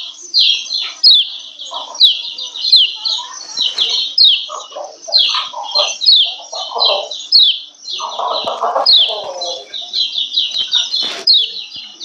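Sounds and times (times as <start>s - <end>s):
bird chirping calls: 0.0s - 12.0s
lower-pitched bird calls: 0.0s - 12.0s.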